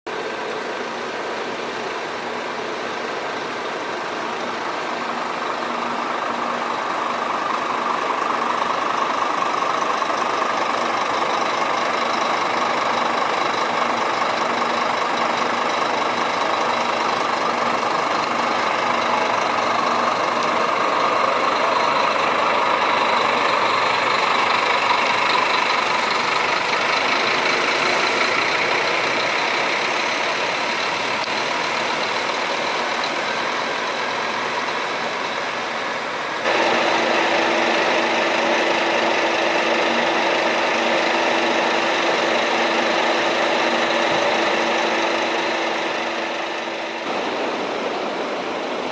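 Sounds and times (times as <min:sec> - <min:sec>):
diesel engine idling: 0:00.1 - 0:48.9.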